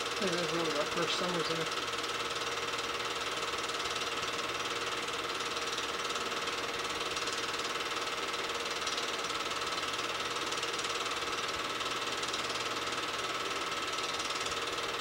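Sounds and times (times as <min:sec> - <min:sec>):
film projector whirring clatter: 0:00.0 - 0:15.0.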